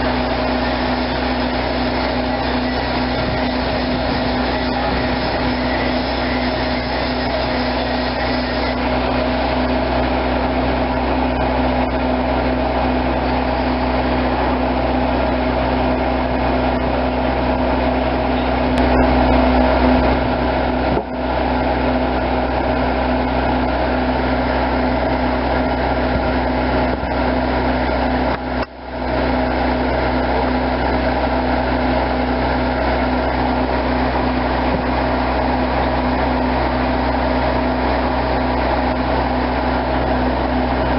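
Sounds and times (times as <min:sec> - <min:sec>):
engine droning steadily: 0:00.0 - 0:40.9.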